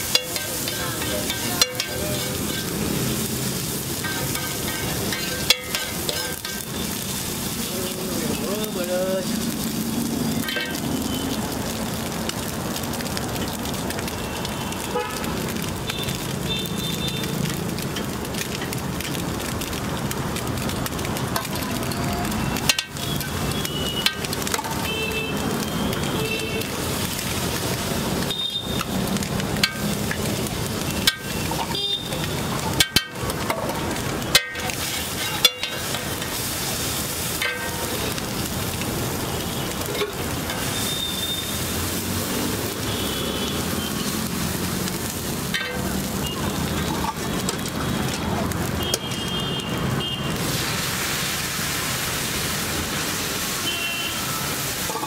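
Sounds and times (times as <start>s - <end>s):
oil sizzling on a griddle: 0.0s - 55.0s.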